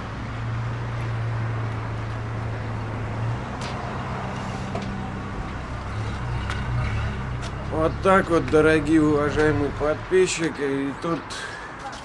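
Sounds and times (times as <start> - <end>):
vehicle engine idling: 0.0 - 11.7.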